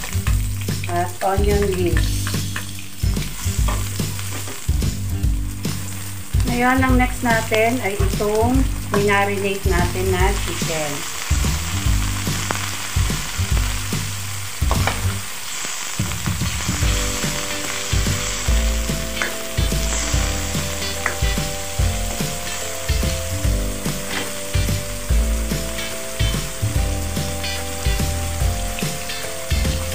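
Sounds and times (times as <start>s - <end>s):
chicken sizzling in hot oil: 0.0s - 29.9s.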